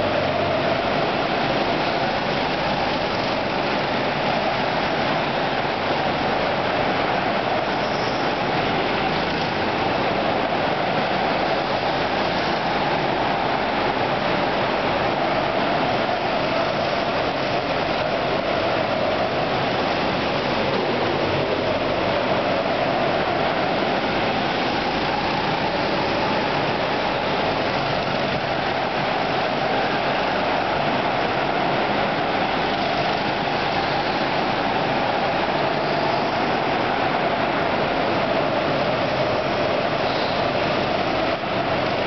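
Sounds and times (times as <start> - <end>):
go-kart engines droning: 0.0 - 42.0.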